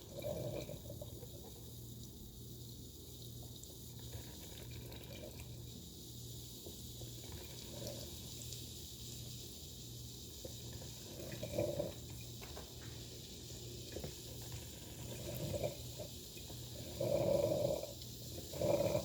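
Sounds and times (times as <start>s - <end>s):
coffee maker gurgling and sputtering: 0.0s - 19.0s.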